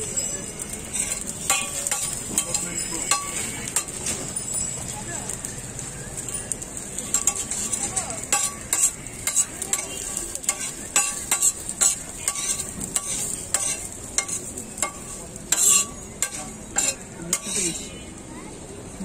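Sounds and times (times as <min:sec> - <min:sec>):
metal spatula scraping griddle: 0:00.0 - 0:04.8, 0:06.3 - 0:18.1
food sizzling on griddle: 0:00.0 - 0:19.0.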